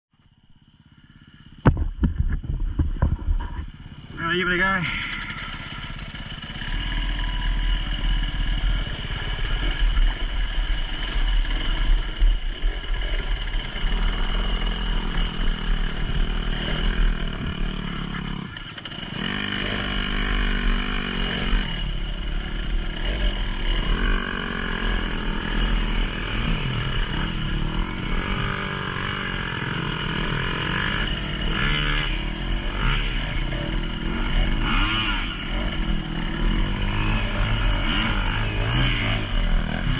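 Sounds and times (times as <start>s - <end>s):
vehicle engine revving: 1.0s - 39.9s.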